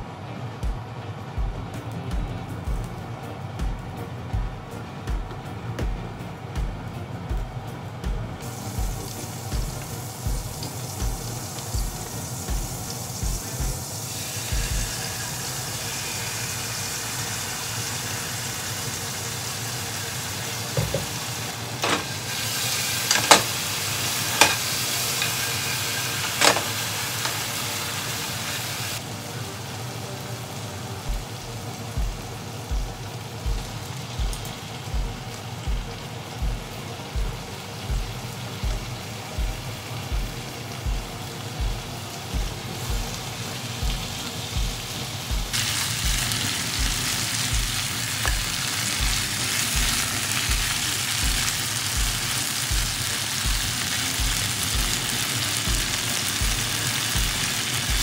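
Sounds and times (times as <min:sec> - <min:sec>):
background music with beat: 0:00.0 - 0:58.0
oil sizzling in frying pan: 0:01.0 - 0:58.0.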